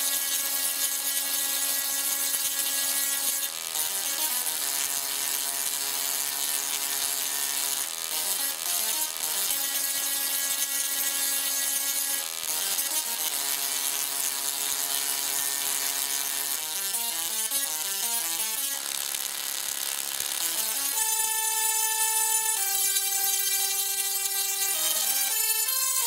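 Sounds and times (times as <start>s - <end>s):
singing tesla coil playing a tune: 0.1s - 26.0s.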